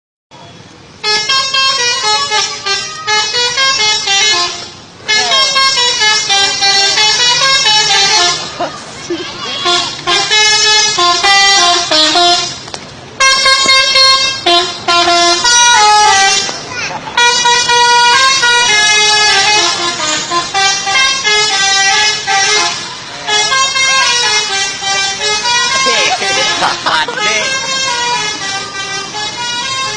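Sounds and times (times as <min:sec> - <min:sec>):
multi-tone bus horn melody: 0:00.4 - 0:29.9.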